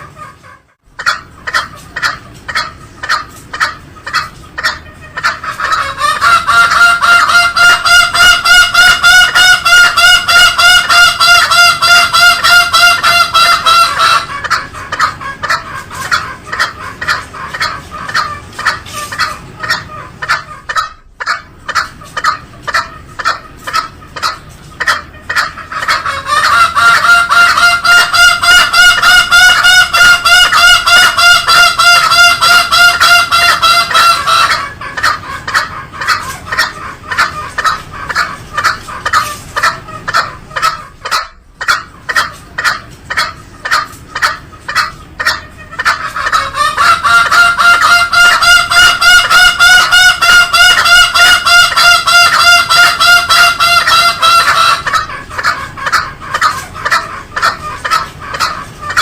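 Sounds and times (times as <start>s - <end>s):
junglefowl calling: 0.0s - 59.0s.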